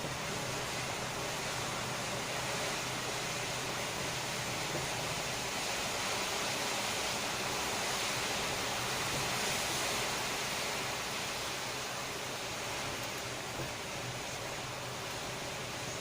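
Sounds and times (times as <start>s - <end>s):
rough sea rushing: 0.0s - 16.0s.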